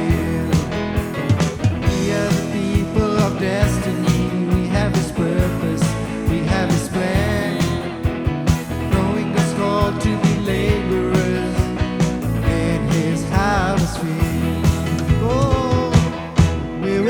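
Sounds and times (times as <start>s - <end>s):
worship band playing: 0.0s - 17.0s.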